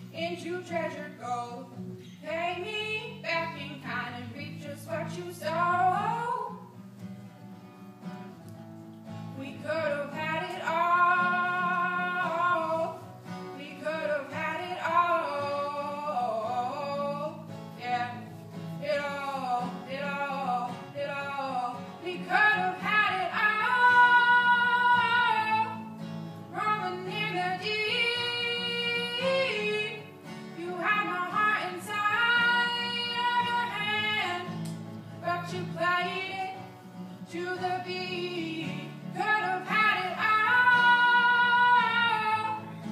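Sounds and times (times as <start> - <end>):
woman singing: 0.0 - 6.7, 9.3 - 42.9
acoustic guitar: 0.0 - 42.9.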